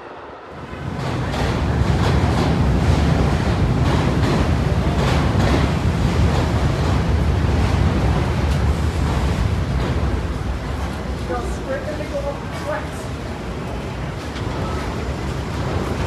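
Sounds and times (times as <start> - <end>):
subway train wheels rumbling on rails: 0.0 - 16.0.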